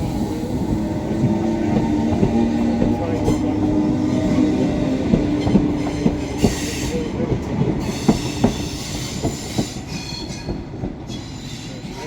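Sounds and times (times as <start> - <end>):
train wheels clacking over rail joints: 0.7 - 12.0.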